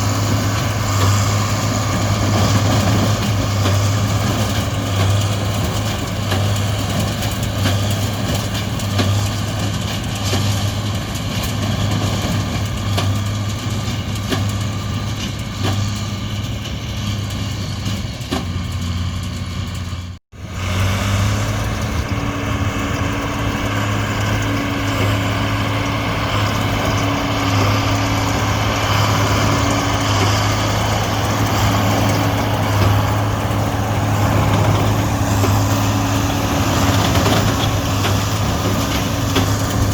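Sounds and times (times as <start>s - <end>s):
diesel engine humming: 0.0s - 39.9s
higher engine hum: 0.0s - 39.9s.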